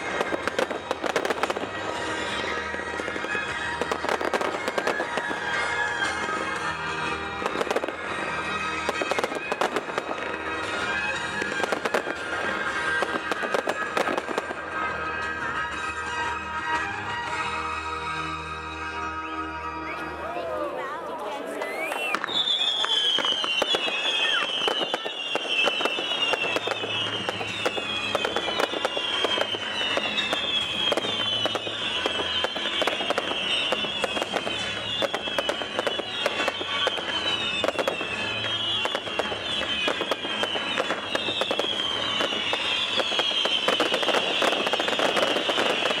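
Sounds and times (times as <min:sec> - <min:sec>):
whistling firework shells: 0:00.0 - 0:14.6, 0:21.6 - 0:46.0
fireworks crackles and bangs: 0:00.0 - 0:18.2, 0:21.5 - 0:46.0.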